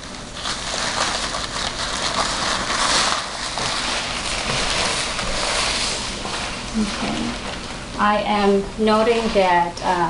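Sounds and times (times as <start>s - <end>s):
paper gown rustling: 0.0s - 7.9s, 8.9s - 9.7s.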